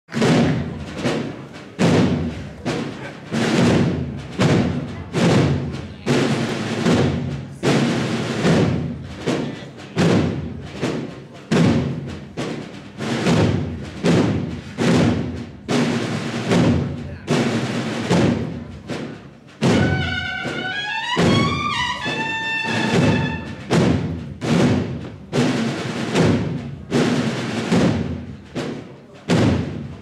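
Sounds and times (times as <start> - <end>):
brass band playing a march: 0.1 - 30.0.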